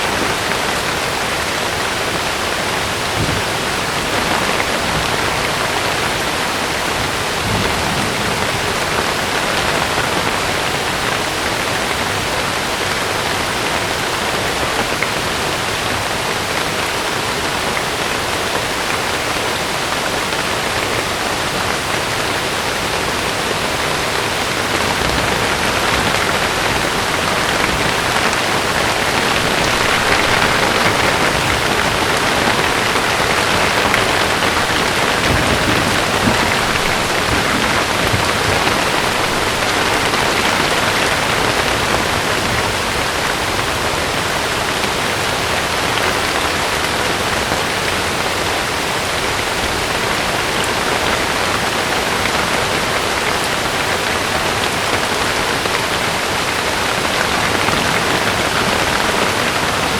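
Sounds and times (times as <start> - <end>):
heavy rain on tent fabric: 0.0 - 59.9.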